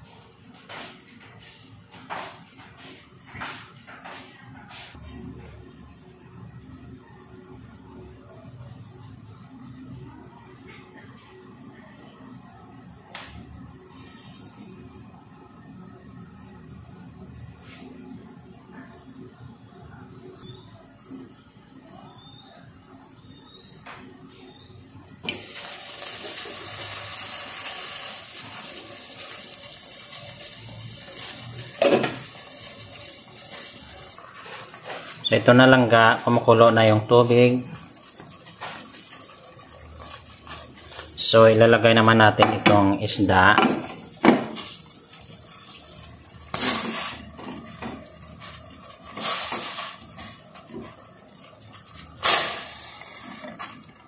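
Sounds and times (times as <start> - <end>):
boiling water bubbling: 4.4 - 54.0.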